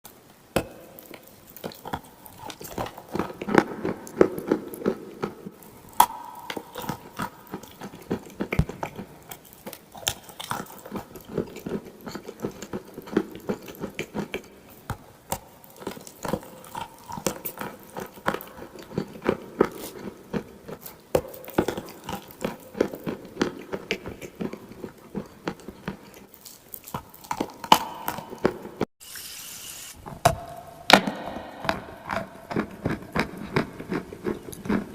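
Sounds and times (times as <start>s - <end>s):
clay being bitten and chewed: 0.6s - 28.9s, 31.1s - 34.9s.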